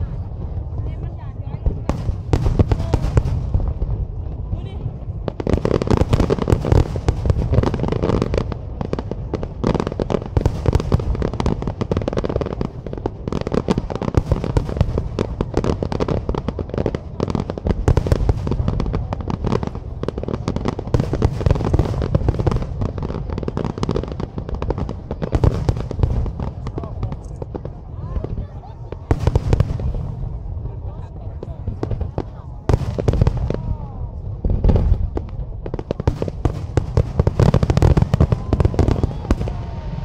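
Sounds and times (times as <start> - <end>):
fireworks bursting: 0.0 - 40.0
fireworks crackling: 0.0 - 40.0.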